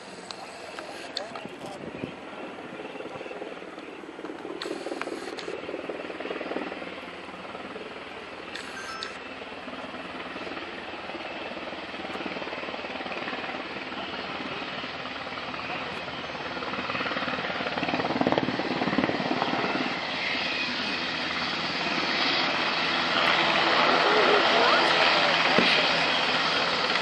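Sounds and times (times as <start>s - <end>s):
helicopter engine whine: 0.0s - 27.0s
helicopter rotor chop: 0.0s - 27.0s.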